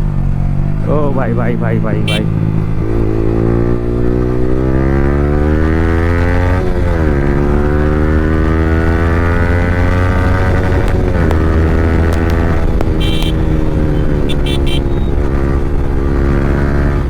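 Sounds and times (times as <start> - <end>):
motorcycle engine revving: 1.8 - 17.0.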